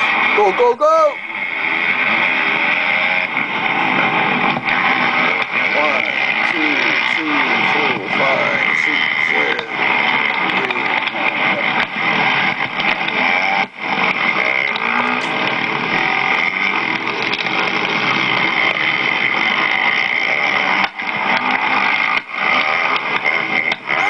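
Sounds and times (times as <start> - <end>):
dirt bike engines racing: 0.0 - 24.0.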